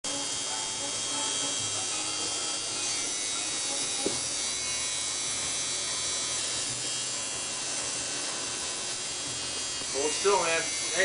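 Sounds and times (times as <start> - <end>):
tattoo machine buzzing: 0.0 - 11.0.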